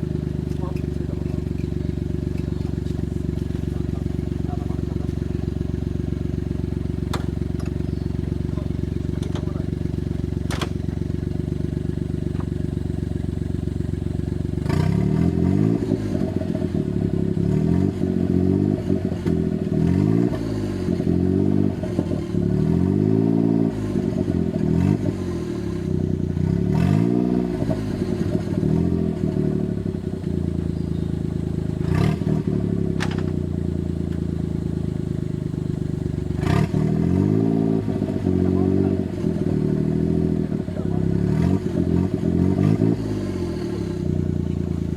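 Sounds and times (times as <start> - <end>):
car engine idling and revving: 0.0 - 44.9.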